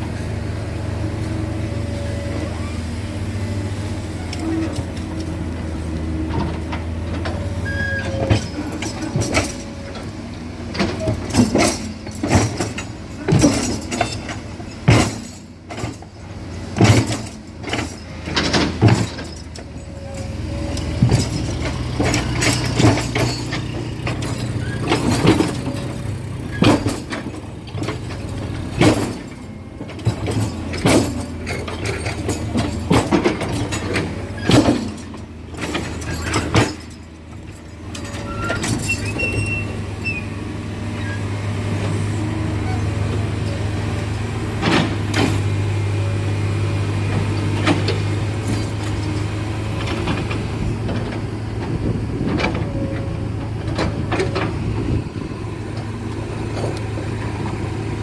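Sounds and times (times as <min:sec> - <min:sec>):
diesel excavator running: 0:00.0 - 0:58.0.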